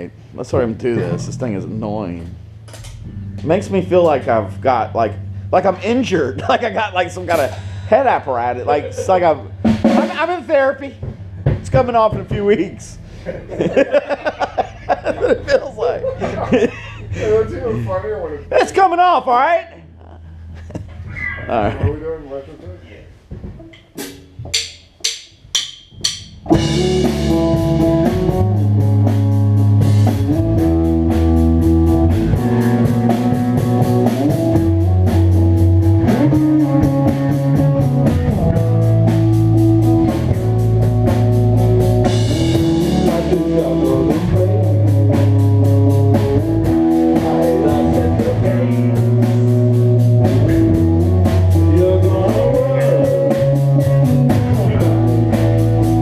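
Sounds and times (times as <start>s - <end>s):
prominent bass line: 0.0s - 22.3s, 23.4s - 56.0s
rock band playing: 0.6s - 17.4s, 23.9s - 56.0s.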